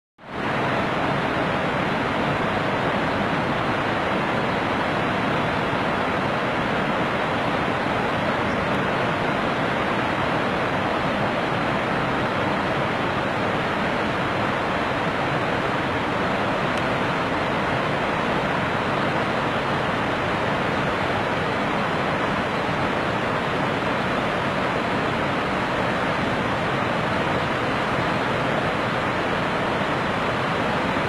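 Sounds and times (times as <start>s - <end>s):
waterfall rushing: 0.2s - 31.0s.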